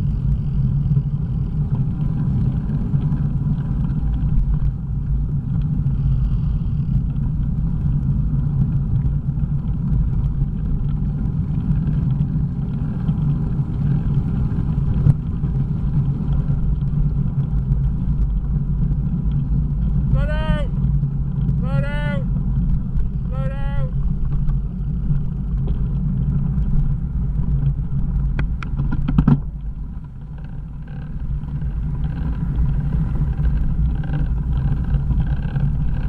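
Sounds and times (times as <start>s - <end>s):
tyres rolling on icy road: 0.0s - 36.0s
wind buffeting microphone: 0.0s - 36.0s.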